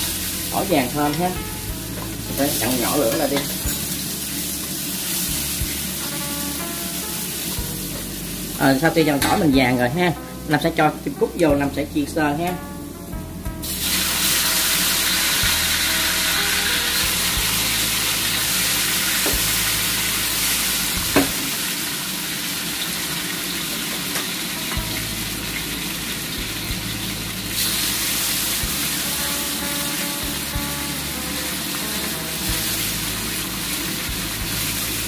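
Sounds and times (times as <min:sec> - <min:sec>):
quail sizzling in oil: 0:00.0 - 0:11.8, 0:13.4 - 0:35.0.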